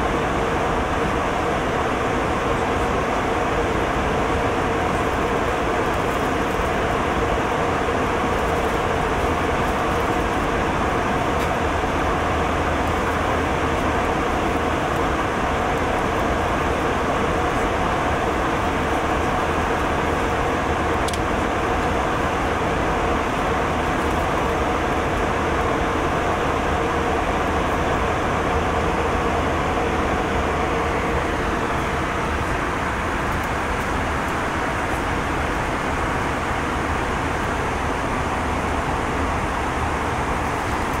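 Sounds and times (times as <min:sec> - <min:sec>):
airliner cabin rush: 0:00.0 - 0:41.0.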